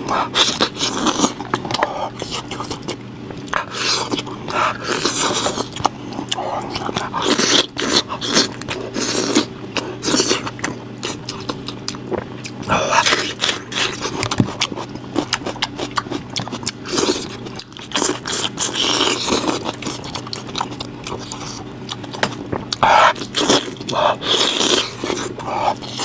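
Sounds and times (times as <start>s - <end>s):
person chewing meat: 0.0s - 26.0s.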